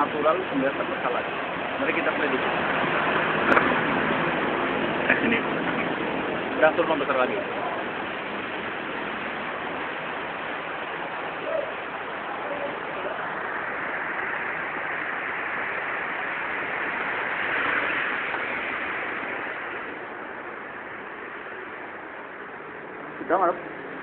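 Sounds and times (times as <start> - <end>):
heavy rain on a road: 0.0 - 24.0.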